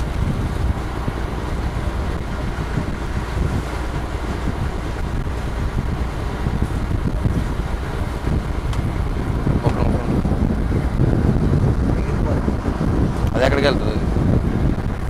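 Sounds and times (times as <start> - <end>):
boat engine rumbling: 0.0 - 15.0
wind buffeting microphone: 0.0 - 15.0.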